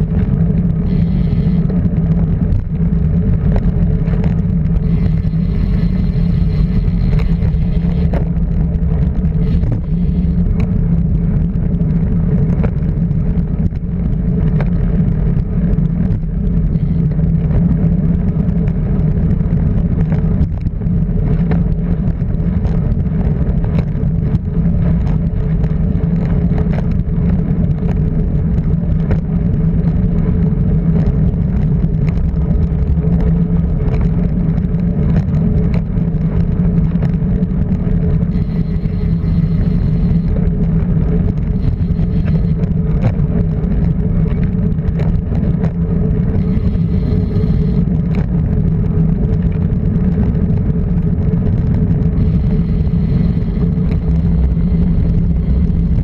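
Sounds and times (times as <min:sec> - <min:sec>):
car engine droning: 0:00.0 - 0:56.0
road noise: 0:00.0 - 0:56.0.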